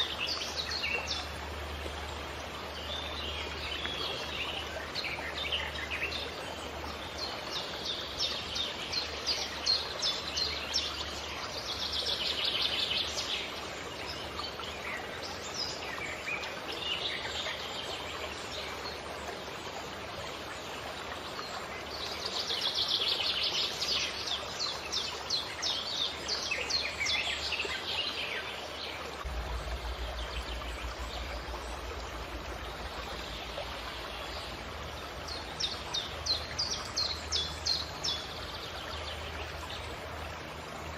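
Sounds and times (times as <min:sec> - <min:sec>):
stream rushing: 0:00.0 - 0:40.9.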